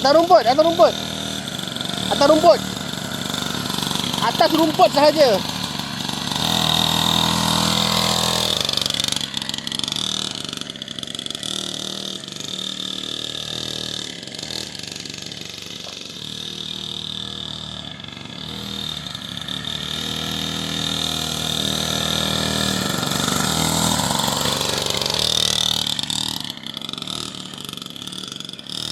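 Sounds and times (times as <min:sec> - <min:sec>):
dirt bike engine running: 0:00.0 - 0:28.9.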